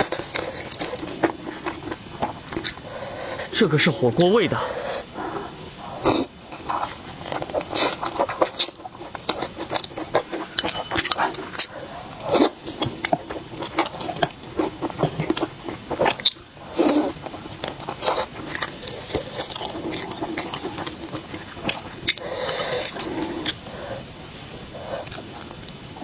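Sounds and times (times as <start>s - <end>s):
chewing with crisp crunches: 0.0s - 26.0s.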